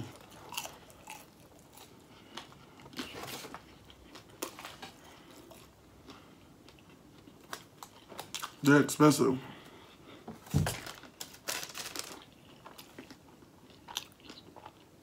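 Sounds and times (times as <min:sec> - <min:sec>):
person chewing food: 0:00.0 - 0:08.6, 0:09.7 - 0:15.0.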